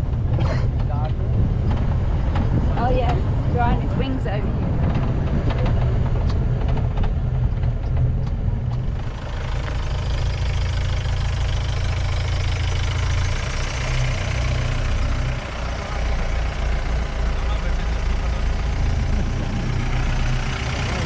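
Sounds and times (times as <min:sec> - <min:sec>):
road and wind noise: 0:00.0 - 0:21.0
vehicle engine rumbling: 0:00.0 - 0:21.0.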